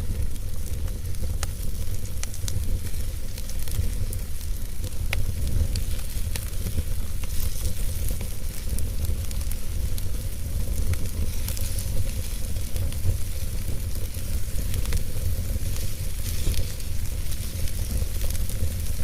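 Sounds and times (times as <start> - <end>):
low rumble and hiss of fire: 0.0 - 19.0
wood fire crackling and popping: 0.0 - 19.0.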